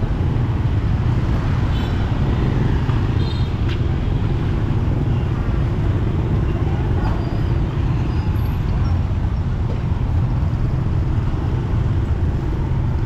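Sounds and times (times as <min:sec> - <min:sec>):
rumble of passing traffic: 0:00.0 - 0:13.0.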